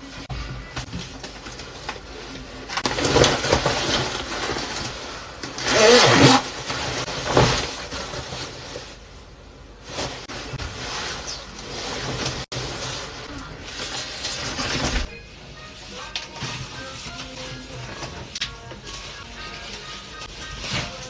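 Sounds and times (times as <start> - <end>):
rustling handling noise: 0.0 - 21.0.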